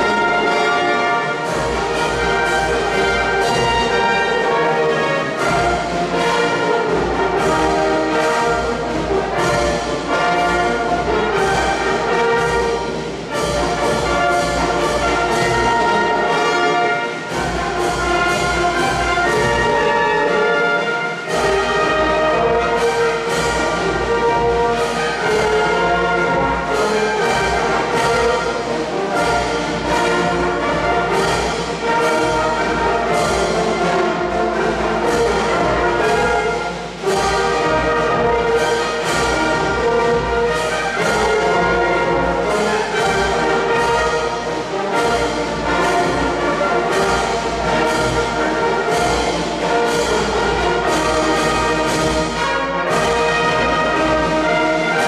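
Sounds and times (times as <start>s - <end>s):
brass and drum band playing: 0.0s - 55.0s.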